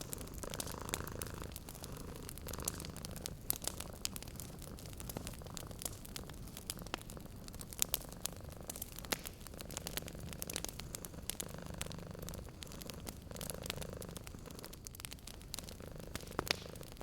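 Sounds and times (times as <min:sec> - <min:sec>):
cat purring: 0:00.0 - 0:17.0
wood fire crackling and popping: 0:00.0 - 0:17.0.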